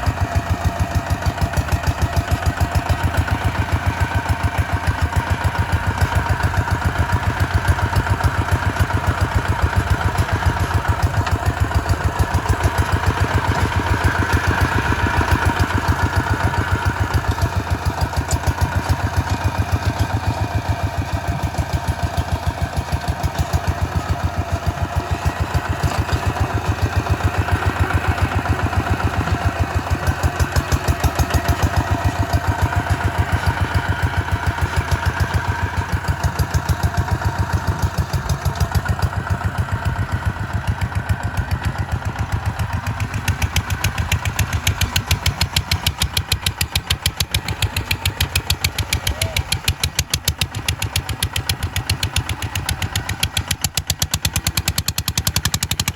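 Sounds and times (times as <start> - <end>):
diesel engine running steadily: 0.0 - 55.9.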